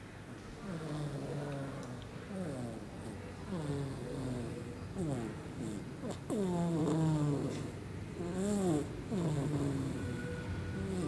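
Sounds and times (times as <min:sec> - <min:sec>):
baby snoring: 0:00.6 - 0:11.0.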